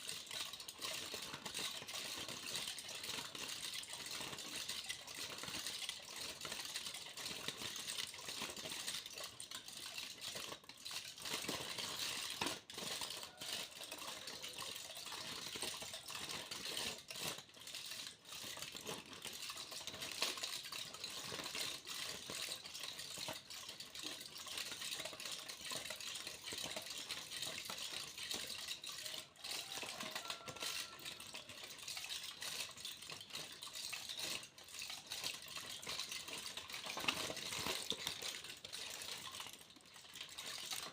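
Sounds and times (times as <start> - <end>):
aluminium foil crinkling: 0.0 - 40.9.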